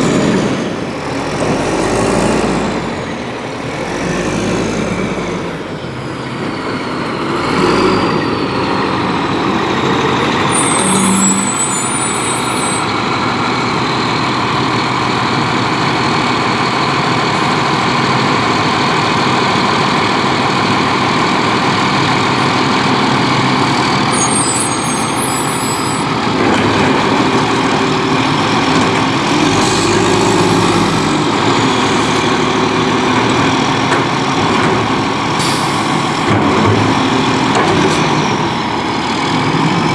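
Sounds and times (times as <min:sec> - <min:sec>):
garbage truck engine and machinery: 0:00.0 - 0:39.9.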